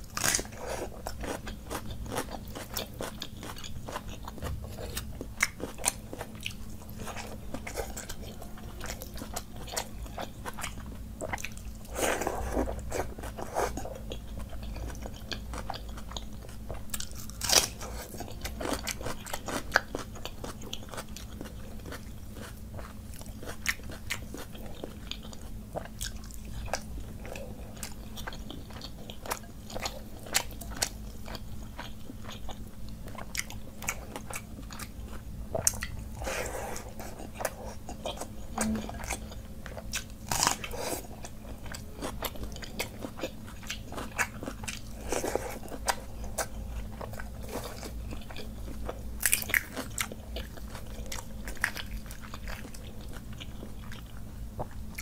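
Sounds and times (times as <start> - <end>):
crunching and chewing: 0.0 - 55.0
faint steady hum: 0.0 - 55.0.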